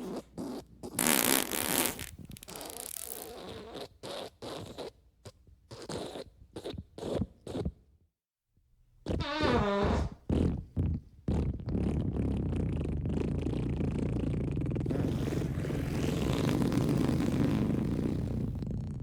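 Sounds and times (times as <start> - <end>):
fart sounds: 0.0 - 5.0, 5.7 - 7.8, 9.1 - 19.0.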